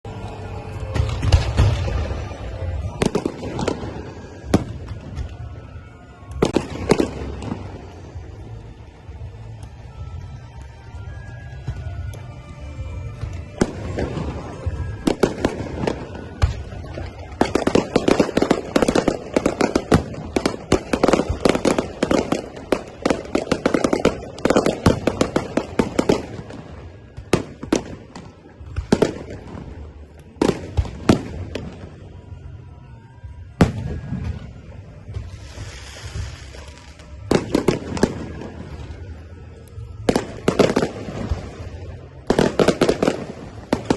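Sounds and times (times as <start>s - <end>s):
fireworks bangs and crackling: 0.1s - 43.9s.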